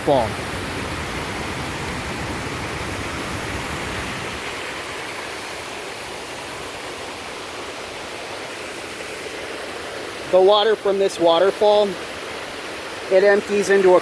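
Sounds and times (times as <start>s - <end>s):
waterfall cascading into pools: 0.0s - 14.0s.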